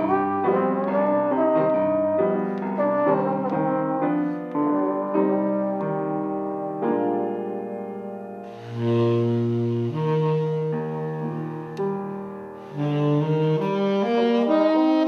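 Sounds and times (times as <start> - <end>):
trombone holding long notes: 0.0 - 7.2, 8.5 - 11.7, 12.7 - 15.0
grand piano: 0.0 - 15.0.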